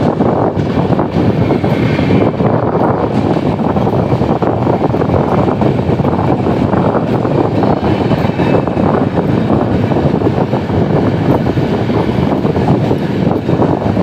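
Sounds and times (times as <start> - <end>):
train wheels rumbling on rail: 0.0 - 14.0
wind buffeting microphone: 0.0 - 14.0.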